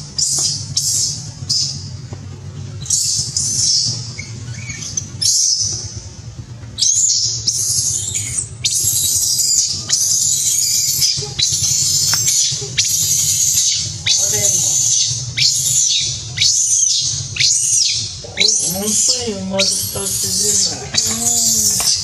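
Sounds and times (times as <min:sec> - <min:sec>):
baby monkey screaming: 0:00.1 - 0:01.8, 0:02.8 - 0:05.9, 0:06.8 - 0:22.0.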